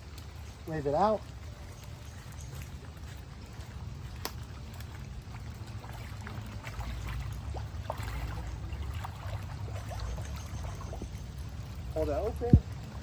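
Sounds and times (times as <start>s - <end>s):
water dripping and trickling: 0.0s - 13.0s
wind rumble on microphone: 1.3s - 13.0s.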